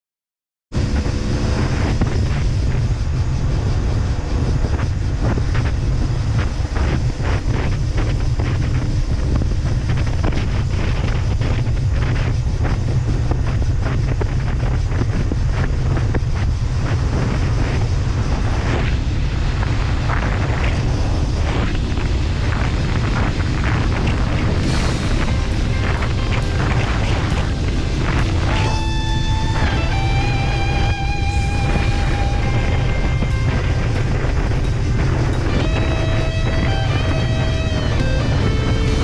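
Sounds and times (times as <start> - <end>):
wind buffeting microphone: 0.7 - 39.0
motorcycle engine running: 0.8 - 39.0.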